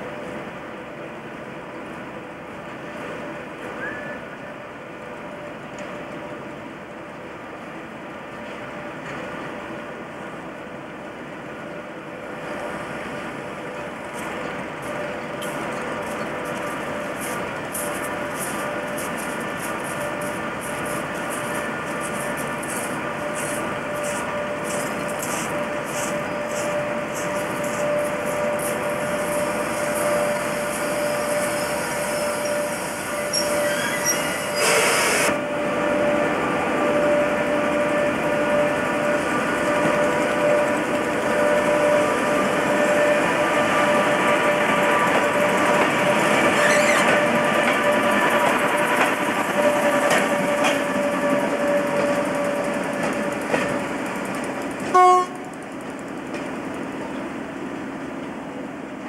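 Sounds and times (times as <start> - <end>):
electric locomotive passing: 0.0 - 59.0
train rushing noise: 0.0 - 59.0.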